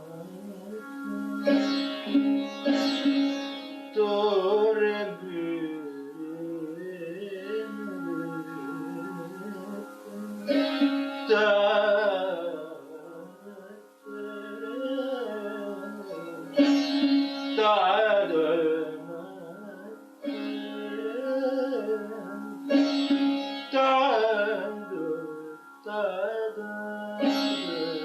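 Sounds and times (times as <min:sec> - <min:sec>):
plucked string instrument: 0:00.0 - 0:28.0.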